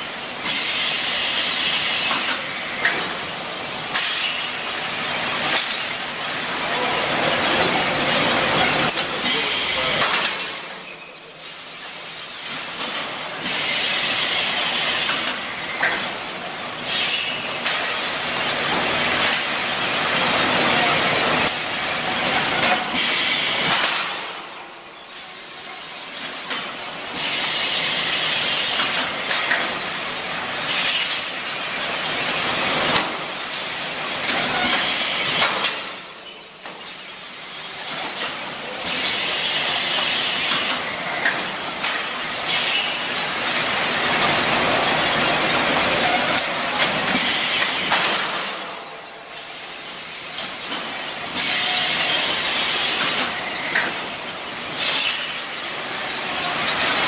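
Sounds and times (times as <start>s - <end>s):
factory machinery clatter and hiss: 0.0s - 57.0s.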